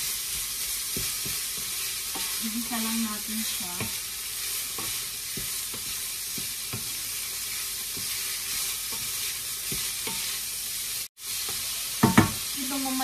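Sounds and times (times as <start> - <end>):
wooden spatula scraping a pan: 0.0 - 12.5
meat sizzling in a frying pan: 0.0 - 13.0.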